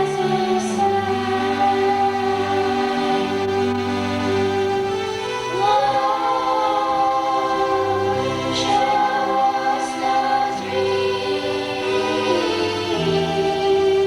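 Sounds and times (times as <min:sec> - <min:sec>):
group of voices singing: 0:00.0 - 0:04.7, 0:05.3 - 0:14.0
music: 0:00.0 - 0:14.0.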